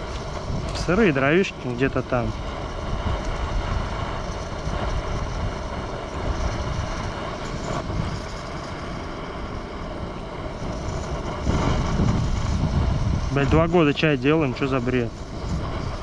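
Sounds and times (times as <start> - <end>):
low rumble of wind on microphone: 0.0 - 16.0.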